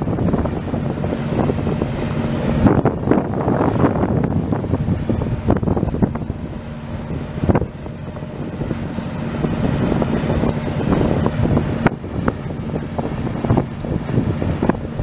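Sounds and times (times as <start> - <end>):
ferry engine drone: 0.0 - 15.0
wind buffeting microphone: 0.0 - 15.0.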